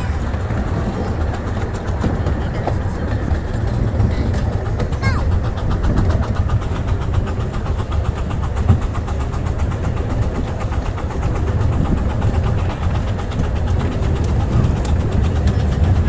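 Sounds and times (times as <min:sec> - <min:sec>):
miniature train wheels rumbling: 0:00.0 - 0:16.0.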